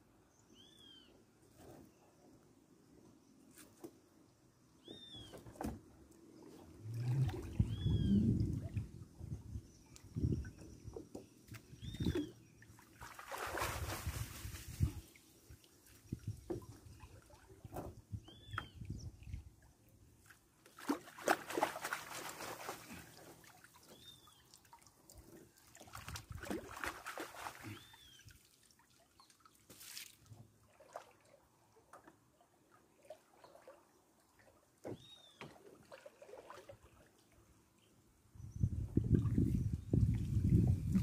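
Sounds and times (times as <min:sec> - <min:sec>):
water sloshing and trickling: 0:04.9 - 0:41.0.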